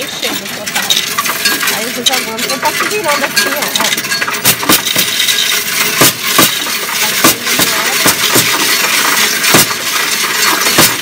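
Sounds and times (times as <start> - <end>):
coin counting machine rattling: 0.0 - 11.0
coins clinking: 0.0 - 11.0.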